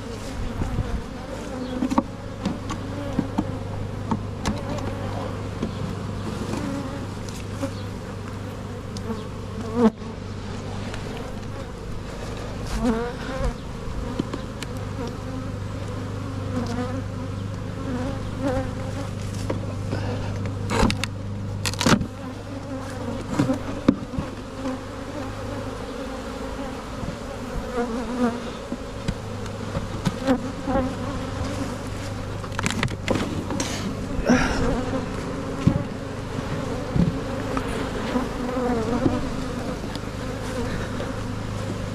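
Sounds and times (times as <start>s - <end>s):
honeybees buzzing: 0.0s - 41.9s.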